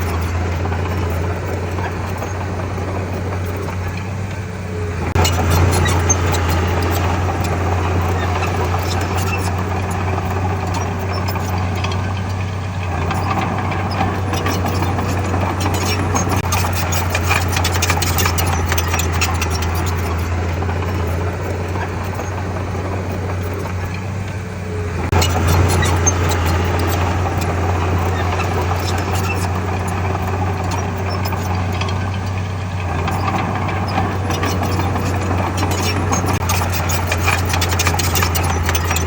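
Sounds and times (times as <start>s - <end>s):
bulldozer diesel engine running: 0.0s - 39.0s
clicks and rattles: 0.0s - 39.0s.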